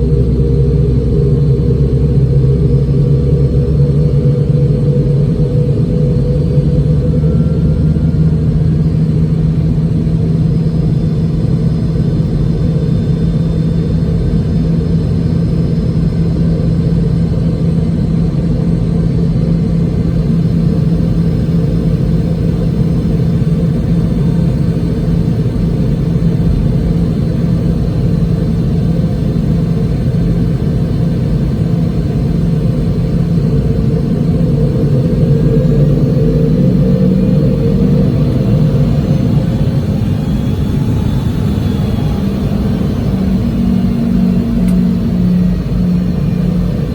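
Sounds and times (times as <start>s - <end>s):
jet engines droning in cabin: 0.0s - 46.9s.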